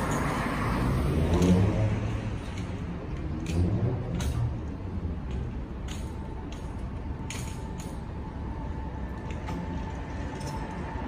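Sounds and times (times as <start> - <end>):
traffic: 0.0 - 11.0.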